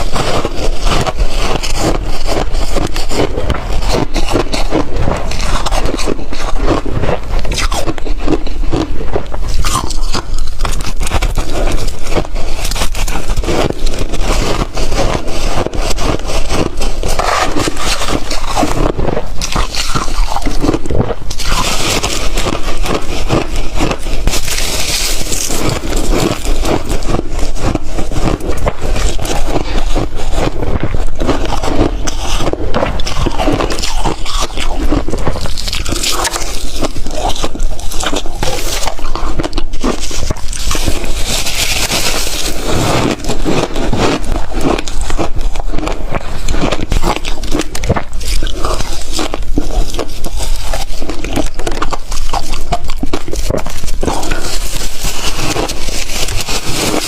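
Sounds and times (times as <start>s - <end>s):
ice crunching while chewed: 0.0s - 57.0s.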